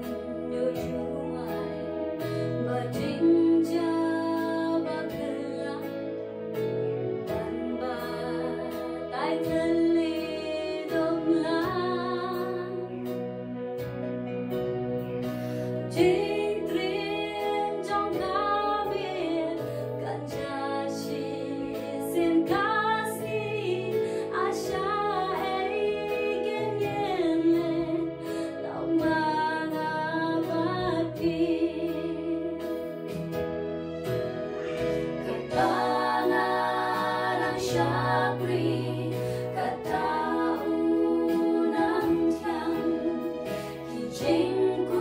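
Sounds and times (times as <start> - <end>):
woman singing a hymn: 0.0 - 6.0, 7.3 - 13.0, 15.9 - 32.7, 35.5 - 45.0
instrumental accompaniment: 0.0 - 45.0.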